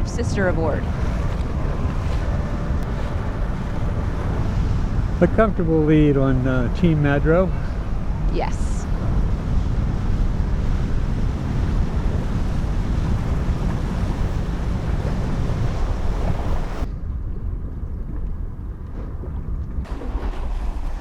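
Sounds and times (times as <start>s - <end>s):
hiss of wind and water: 0.0s - 16.9s
wind buffeting microphone: 0.0s - 21.0s.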